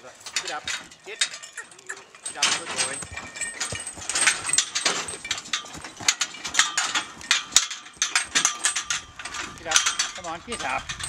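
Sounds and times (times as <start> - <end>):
metal harness fittings clinking: 0.0 - 11.0.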